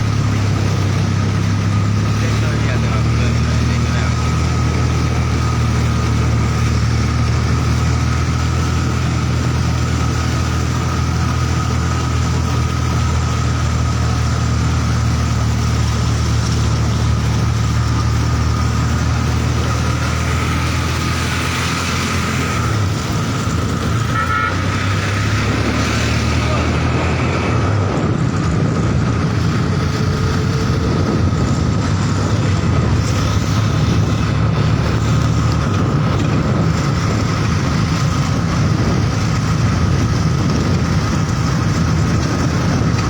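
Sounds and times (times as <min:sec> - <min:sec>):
motor engine running: 0:00.0 - 0:43.0.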